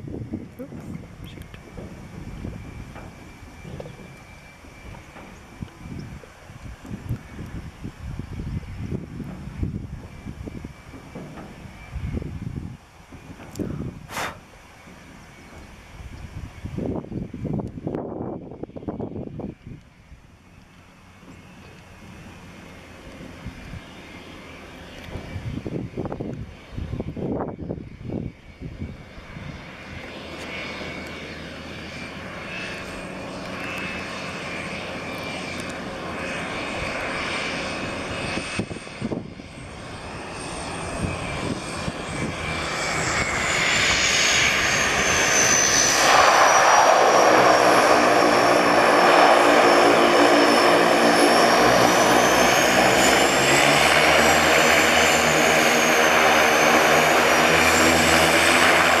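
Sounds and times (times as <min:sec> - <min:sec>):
high turbine whine: 0:00.0 - 0:59.0
turboprop engines: 0:00.0 - 0:59.0.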